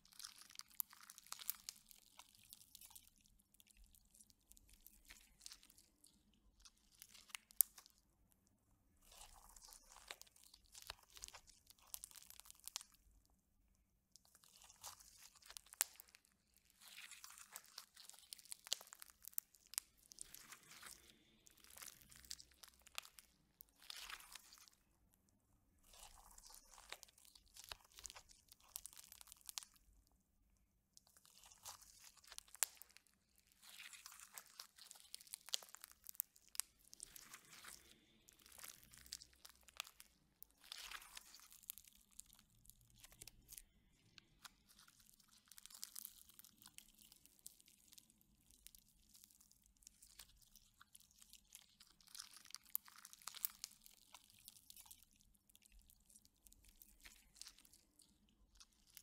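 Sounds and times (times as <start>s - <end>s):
slime beads crackling and popping: 0.0s - 8.3s, 9.0s - 13.4s, 14.1s - 30.2s, 31.0s - 59.0s.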